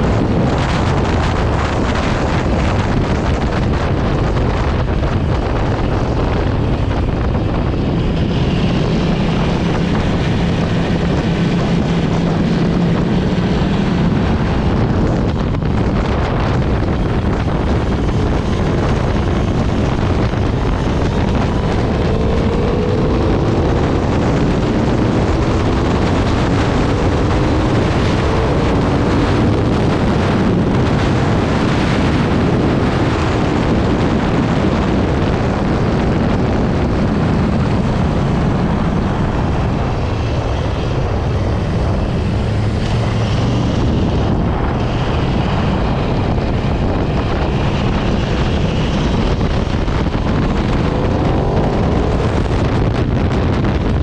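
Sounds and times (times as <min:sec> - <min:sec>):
motorcycle engine running hard: 0:00.0 - 0:54.0
wind noise on microphone: 0:00.0 - 0:54.0.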